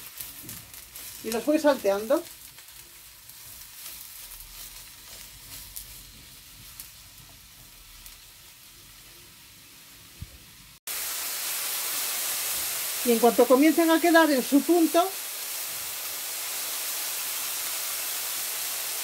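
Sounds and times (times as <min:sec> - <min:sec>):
mushrooms sizzling in oil: 0:00.0 - 0:19.0.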